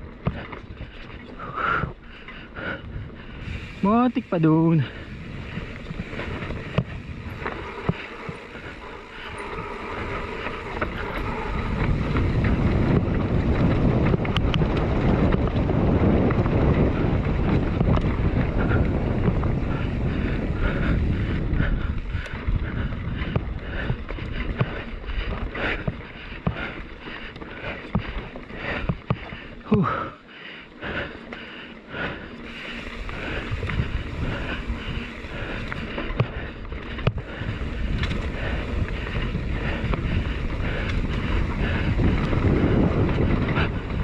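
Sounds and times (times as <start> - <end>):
tyre roar on dirt: 0.0 - 30.2, 31.1 - 44.0
bike rattling and knocking: 0.0 - 44.0
wind buffeting microphone: 0.0 - 44.0.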